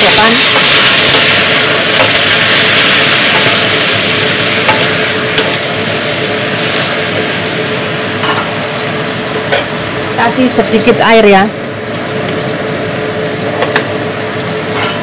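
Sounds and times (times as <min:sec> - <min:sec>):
shrimp sizzling in hot oil: 0:00.0 - 0:15.0.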